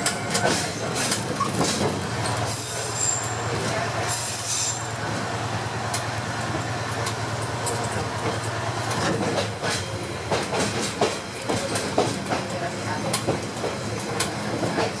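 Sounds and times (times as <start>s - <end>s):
diesel railcar engine drone: 0.0s - 15.0s
train running rumble: 0.0s - 15.0s
wheels clicking over rail joints: 0.0s - 15.0s.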